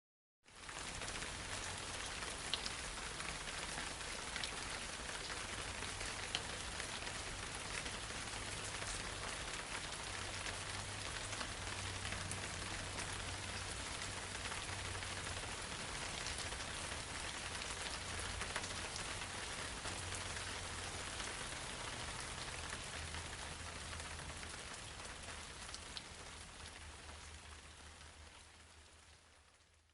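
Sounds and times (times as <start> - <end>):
light rain pattering: 0.5 - 29.9.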